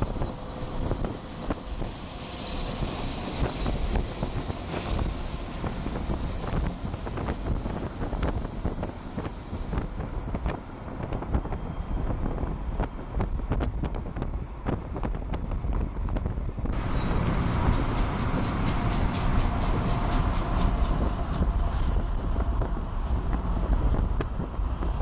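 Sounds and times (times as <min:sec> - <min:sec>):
diesel locomotive rumble: 0:00.0 - 0:25.0
wind on microphone: 0:00.0 - 0:25.0.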